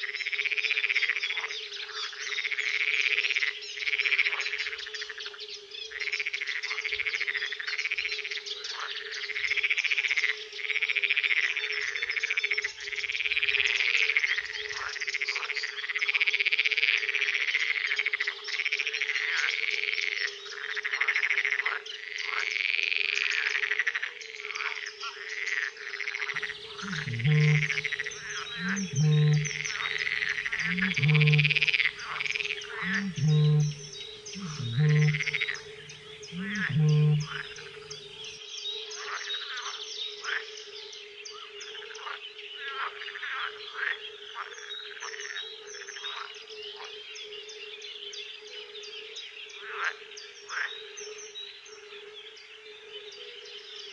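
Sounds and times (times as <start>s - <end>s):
frogs croaking: 0.0s - 40.6s, 41.4s - 47.0s, 49.6s - 50.8s
hum of distant frogs: 0.0s - 53.9s.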